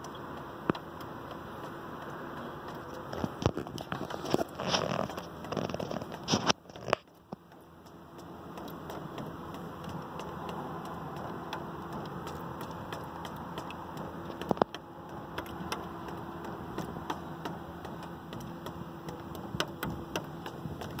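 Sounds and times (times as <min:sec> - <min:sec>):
water drops ticking on plastic: 0:00.0 - 0:21.0.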